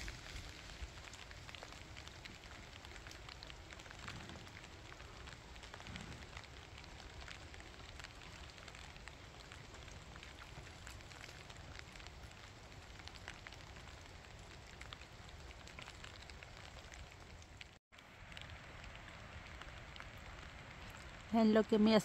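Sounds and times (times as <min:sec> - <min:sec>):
rain drops ticking: 0:00.0 - 0:22.0.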